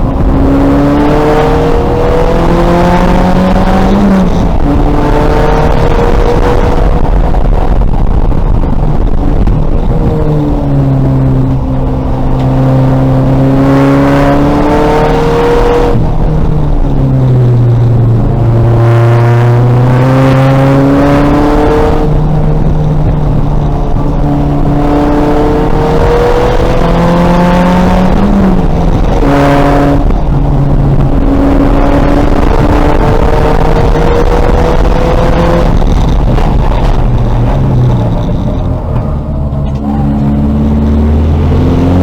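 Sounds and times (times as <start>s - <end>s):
race car engine running hard: 0.0s - 42.0s.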